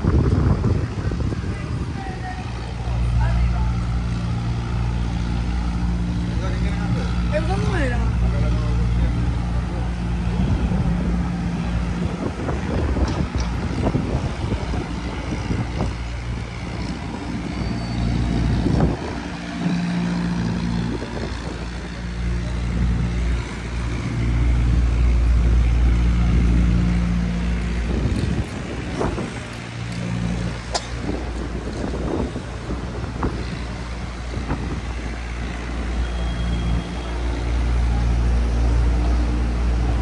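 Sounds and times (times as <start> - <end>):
large engine droning: 0.0 - 40.0.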